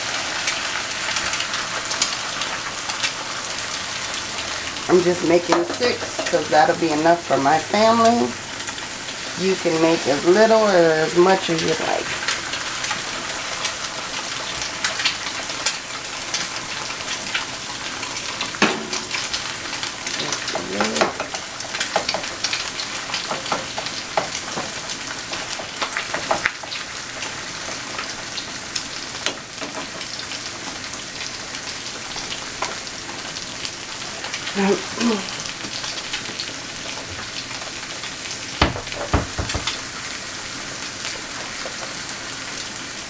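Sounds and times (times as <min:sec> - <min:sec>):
eggs sizzling in a skillet: 0:00.0 - 0:43.0.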